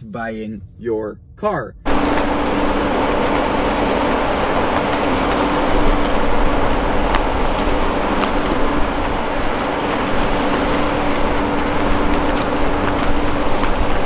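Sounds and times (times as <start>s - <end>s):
continuous rushing hiss: 0.0s - 14.0s
steady low hum: 0.0s - 14.0s.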